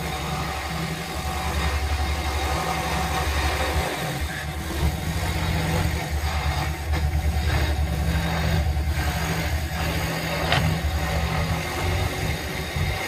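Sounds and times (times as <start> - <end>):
scroll saw cutting wood: 0.0 - 13.0.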